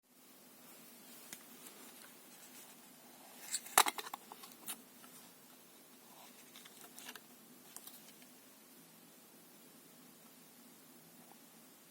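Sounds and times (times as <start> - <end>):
faint low hum: 0.1 - 11.9.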